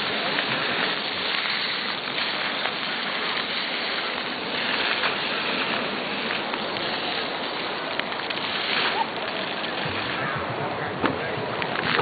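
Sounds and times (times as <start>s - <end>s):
water fountain splashing: 0.0s - 12.0s.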